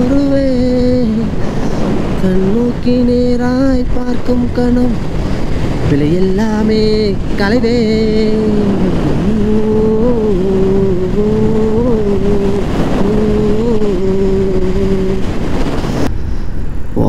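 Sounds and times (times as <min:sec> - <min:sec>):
wind and road rush: 0:00.0 - 0:17.0.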